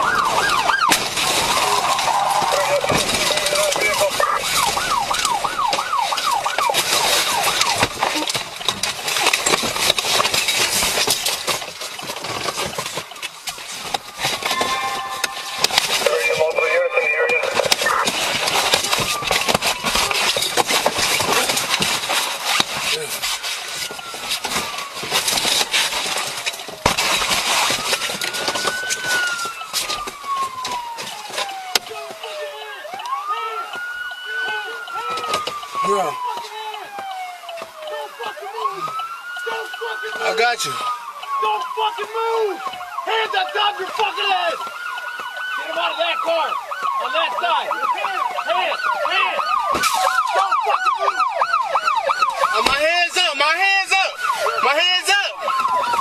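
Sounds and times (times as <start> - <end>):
police siren yelping: 0.0 - 11.3, 12.0 - 56.0
crackles: 0.0 - 56.0
road and wind noise: 0.0 - 56.0.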